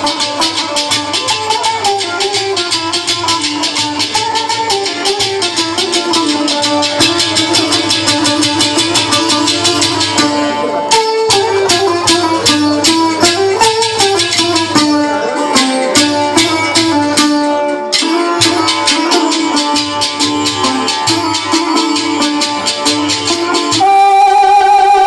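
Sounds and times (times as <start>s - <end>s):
clay pot drums: 0.0s - 24.2s
pitched melody: 0.0s - 25.0s.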